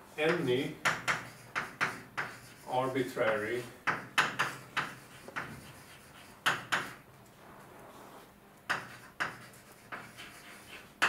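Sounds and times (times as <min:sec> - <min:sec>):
chalk tapping on a board: 0:00.2 - 0:07.0, 0:08.7 - 0:11.0.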